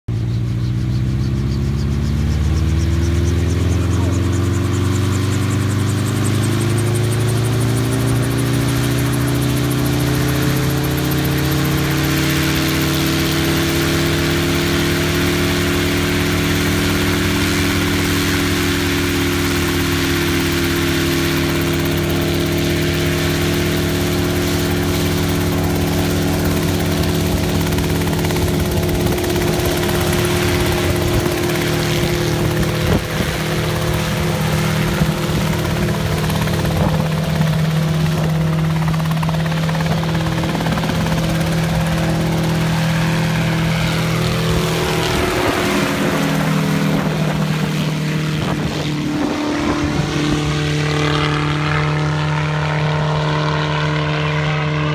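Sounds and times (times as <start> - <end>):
helicopter engine and rotors: 0.1 - 54.9.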